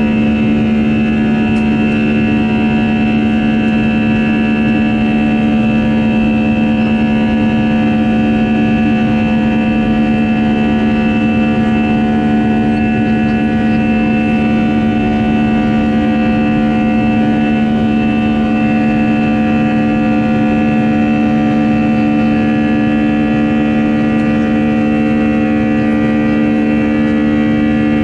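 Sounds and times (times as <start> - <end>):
engine whining tones: 0.0 - 28.0
jet engine drone in cabin: 0.0 - 28.0.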